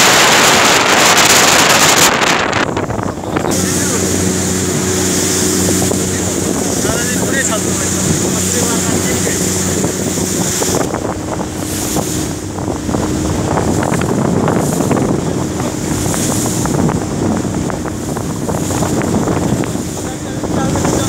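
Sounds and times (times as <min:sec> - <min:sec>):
boat engine drone: 0:00.0 - 0:21.0
water rushing past hull: 0:00.0 - 0:21.0
wind buffeting microphone: 0:00.0 - 0:21.0.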